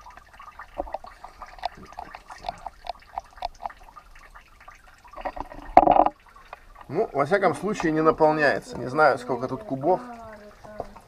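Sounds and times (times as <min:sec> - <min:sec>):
water dripping in a pit: 0:00.0 - 0:11.0.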